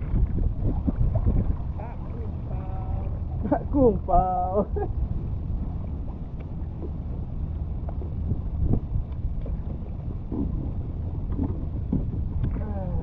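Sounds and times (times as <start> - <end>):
water sloshing against hull: 0.0 - 13.0
wind rumbling on microphone: 0.0 - 13.0.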